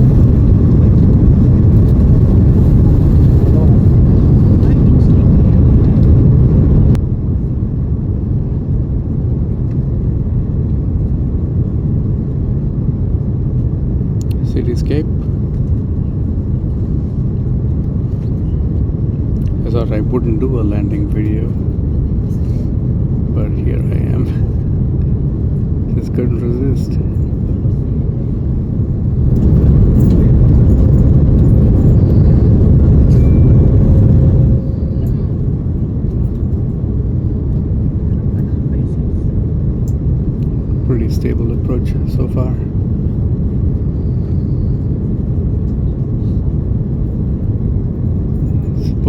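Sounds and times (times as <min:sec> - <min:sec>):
aircraft cabin engine rumble: 0:00.0 - 0:49.0.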